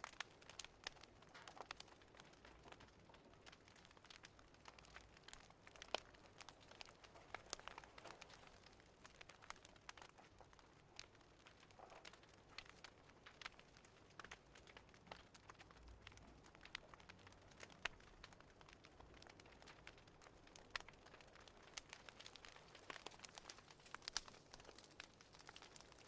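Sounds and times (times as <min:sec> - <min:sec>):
fireplace crackling: 0:00.0 - 0:26.0.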